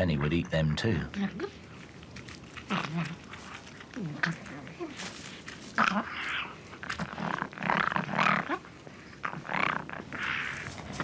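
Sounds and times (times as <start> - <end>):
foxes snarling: 1.2 - 11.0.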